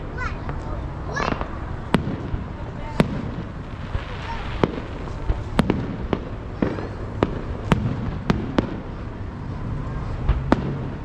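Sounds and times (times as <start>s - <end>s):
fireworks bangs: 0.0s - 11.0s
low rumble: 0.8s - 11.0s.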